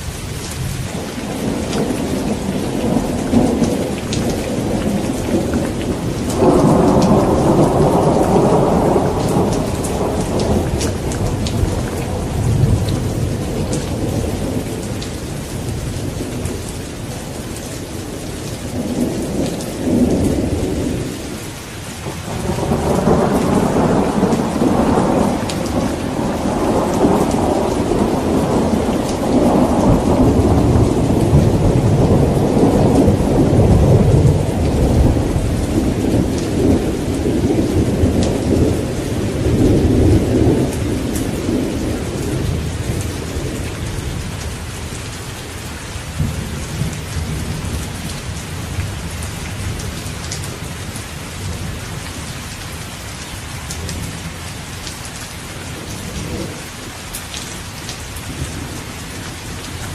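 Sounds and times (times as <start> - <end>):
rolling thunder: 0.0 - 45.0, 46.1 - 52.3
heavy rain hissing: 0.0 - 59.9
sharp rain drops: 0.0 - 59.9.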